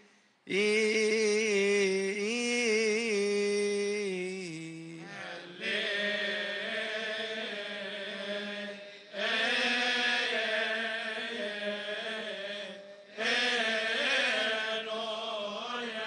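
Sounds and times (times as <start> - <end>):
men chanting a hymn: 0.5 - 16.0.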